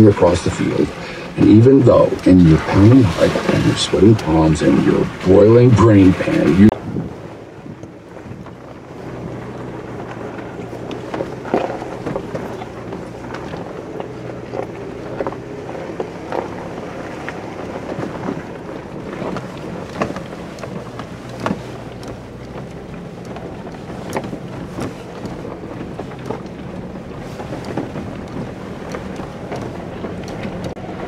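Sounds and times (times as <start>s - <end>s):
tyres grinding over stones: 0.0s - 6.7s, 9.5s - 30.8s
vehicle engine running: 0.0s - 31.0s
vehicle knocks and rattles: 0.0s - 31.0s.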